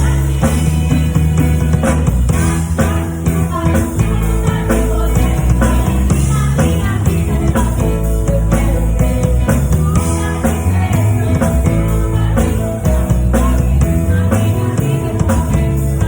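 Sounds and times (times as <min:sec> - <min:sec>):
person singing: 0:00.0 - 0:02.0, 0:02.6 - 0:16.0
drum kit hits: 0:00.0 - 0:16.0
guitar: 0:00.0 - 0:16.0
rock band playing: 0:00.0 - 0:16.0.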